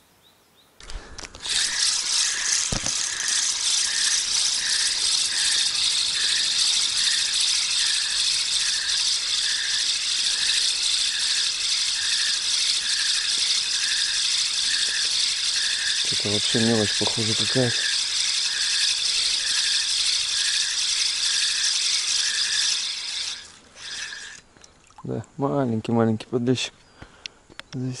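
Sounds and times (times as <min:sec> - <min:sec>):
fishing reel whirring rattle: 0:00.8 - 0:24.6.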